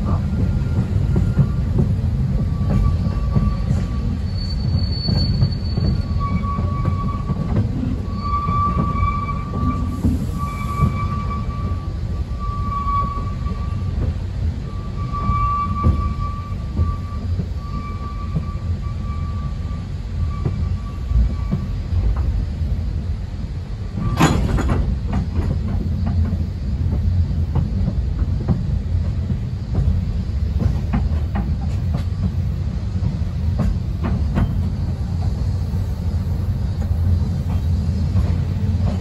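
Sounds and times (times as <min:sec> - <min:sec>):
train rumble inside carriage: 0:00.0 - 0:39.0.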